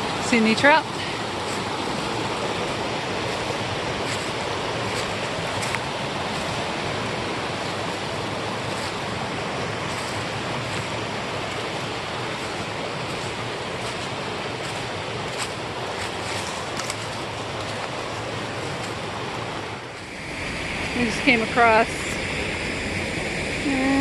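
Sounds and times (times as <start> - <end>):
creek rushing over rocks: 0.0 - 24.0.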